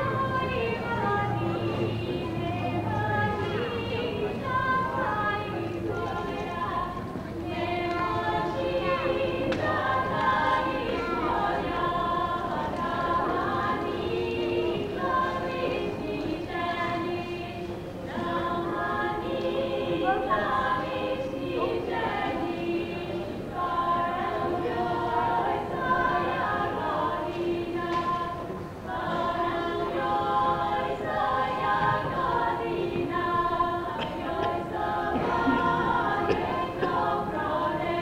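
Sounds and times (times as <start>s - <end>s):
women singing in harmony: 0.0s - 38.0s.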